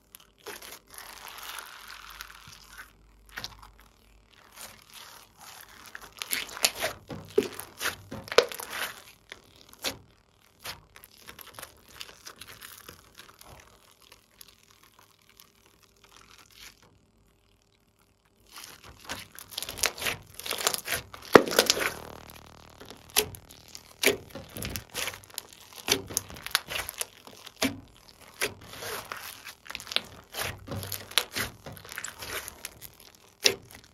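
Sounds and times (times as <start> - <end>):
hands squishing slime: 0.1 - 16.9, 18.3 - 33.9.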